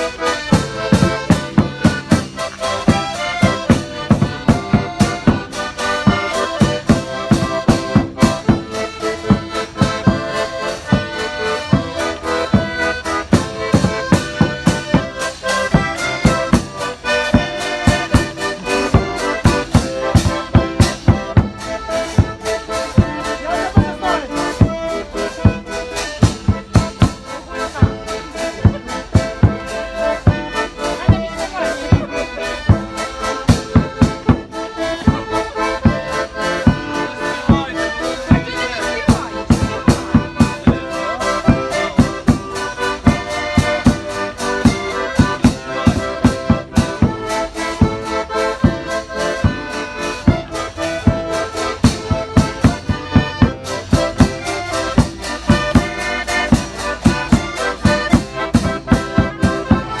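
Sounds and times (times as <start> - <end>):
accordion playing folk tune: 0.0 - 60.0
steady drum beat: 0.0 - 60.0.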